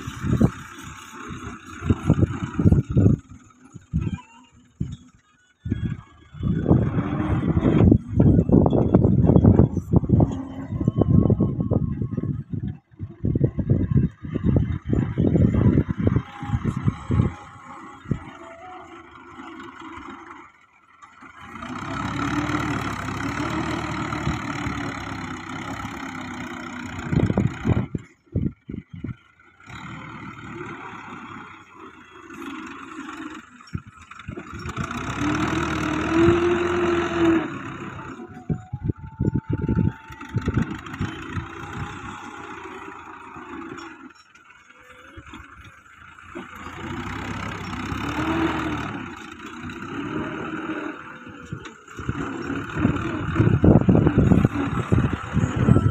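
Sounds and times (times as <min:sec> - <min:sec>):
tractor diesel engine revving: 0:00.0 - 0:55.9.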